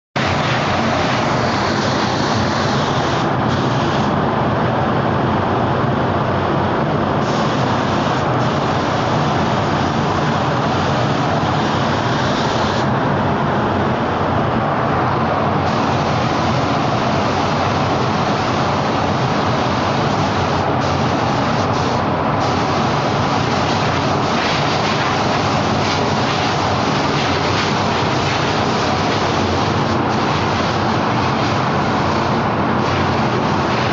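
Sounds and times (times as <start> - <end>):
spray booth air rushing: 0.2 - 4.2, 7.2 - 12.9, 15.6 - 33.9
spray gun hissing: 0.2 - 4.2, 7.2 - 12.9, 15.7 - 33.9.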